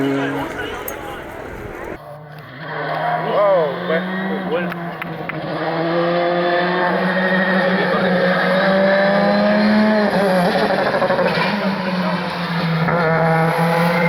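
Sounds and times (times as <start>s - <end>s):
rally car engine accelerating: 0.0s - 14.0s.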